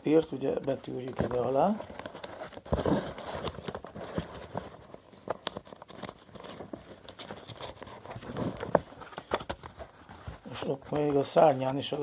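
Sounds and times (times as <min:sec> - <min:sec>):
paper rustling: 0:00.1 - 0:12.0.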